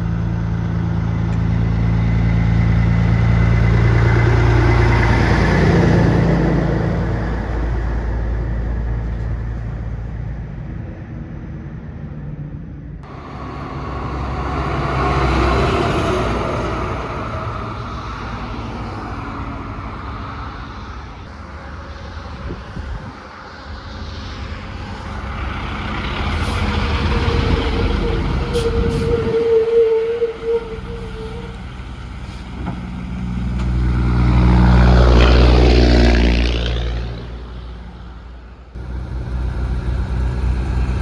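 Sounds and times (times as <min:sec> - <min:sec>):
road traffic: 0:00.0 - 0:41.0
truck passing: 0:00.0 - 0:41.0.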